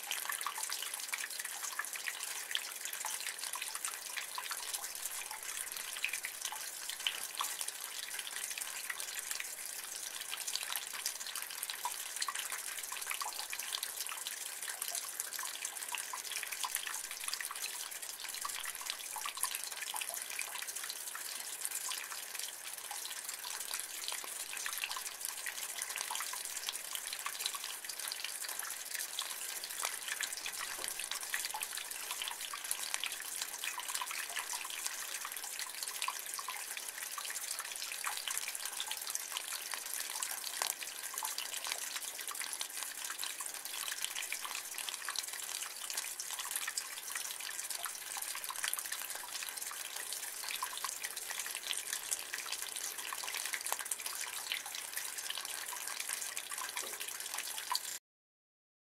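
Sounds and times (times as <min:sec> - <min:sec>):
rainwater dripping in gutter: 0:00.0 - 0:58.0.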